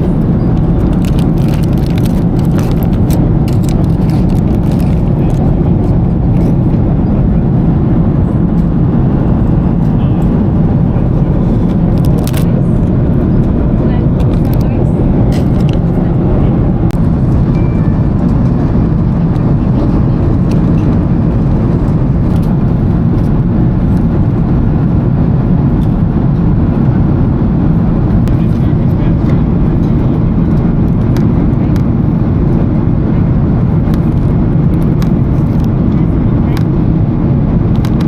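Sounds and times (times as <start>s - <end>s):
airliner cabin noise: 0.0s - 38.0s.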